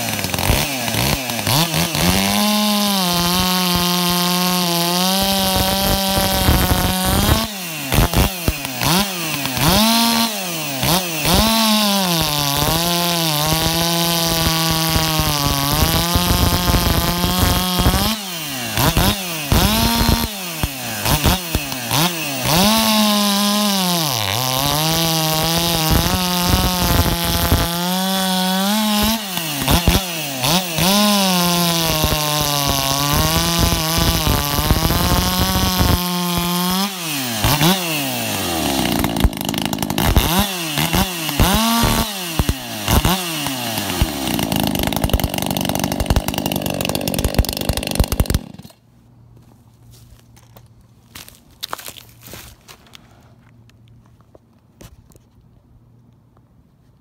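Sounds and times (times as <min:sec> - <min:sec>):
chainsaw cutting a log: 0:00.0 - 0:48.8.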